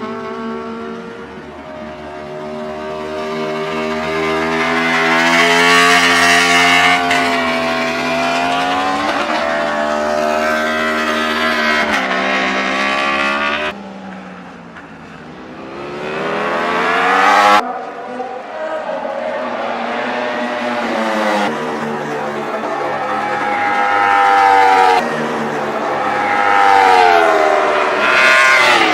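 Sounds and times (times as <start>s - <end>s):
racing motorcycle engines revving: 0.0s - 28.9s.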